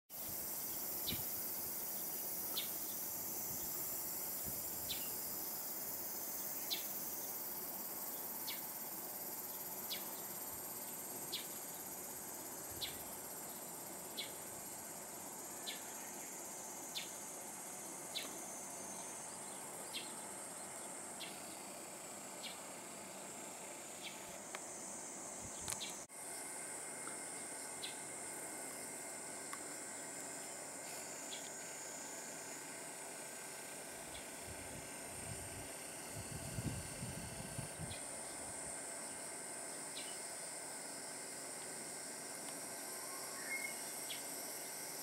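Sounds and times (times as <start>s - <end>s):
high-pitched insect chorus: 0.1s - 45.0s.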